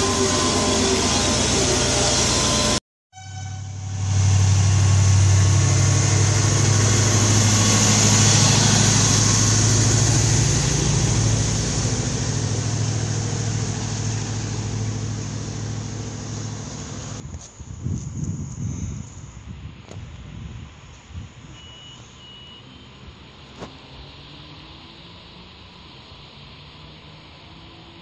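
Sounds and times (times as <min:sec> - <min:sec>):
diesel railcar engine droning: 0:00.0 - 0:17.2, 0:21.0 - 0:28.0.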